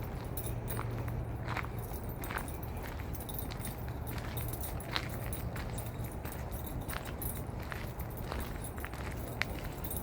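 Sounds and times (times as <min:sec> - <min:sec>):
crunching footsteps on trail: 0:00.0 - 0:10.0.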